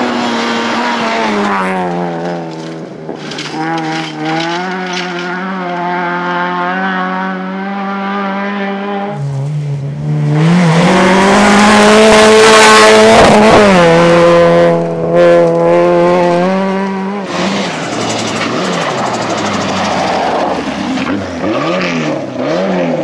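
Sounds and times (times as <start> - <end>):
rally car engine high revs: 0.0 - 23.0.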